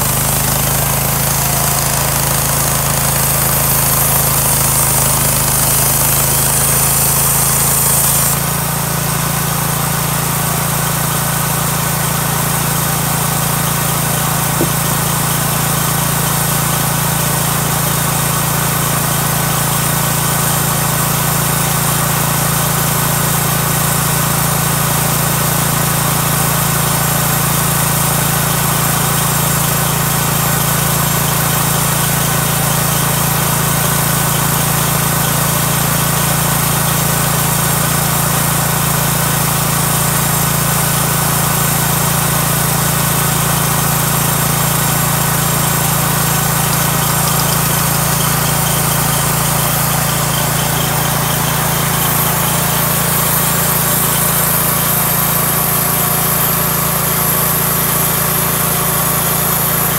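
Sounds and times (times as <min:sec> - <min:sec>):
small engine running steadily: 0:00.0 - 0:59.9.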